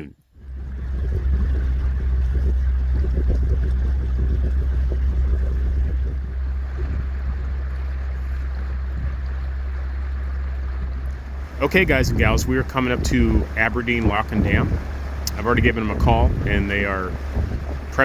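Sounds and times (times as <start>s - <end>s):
boat motor humming: 0.0s - 18.0s
water washing: 0.0s - 18.0s
wind noise: 0.4s - 18.0s.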